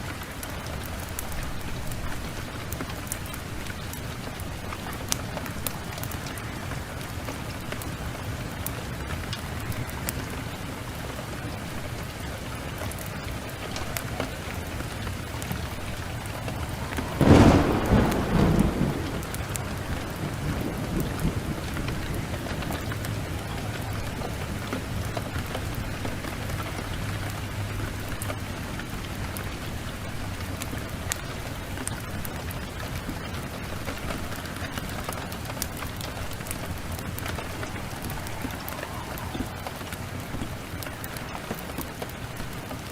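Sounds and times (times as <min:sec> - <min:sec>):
sharp ticks and crackles: 0:00.0 - 0:42.9
steady rain: 0:00.0 - 0:42.9.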